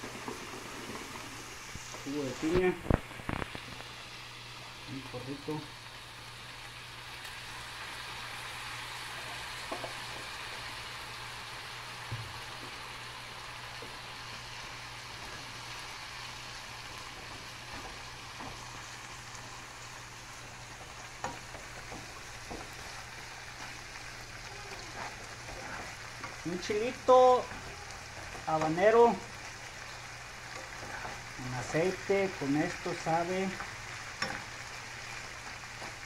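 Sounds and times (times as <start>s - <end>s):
food sizzling in a frying pan: 0.0s - 36.0s.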